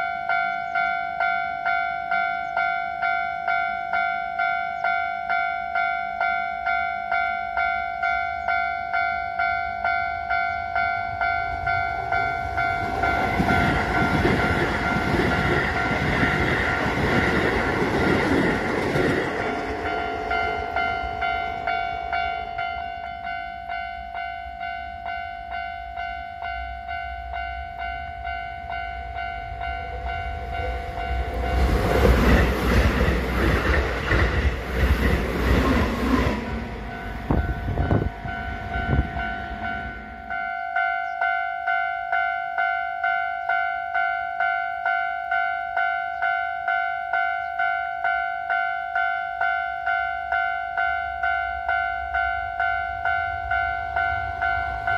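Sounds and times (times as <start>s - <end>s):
level crossing warning bell: 0.0s - 54.9s
train passing: 0.0s - 54.9s.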